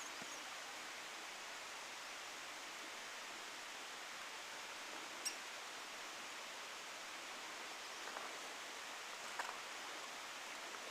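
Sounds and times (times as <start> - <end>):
outdoor ambience hiss: 0.0 - 10.9.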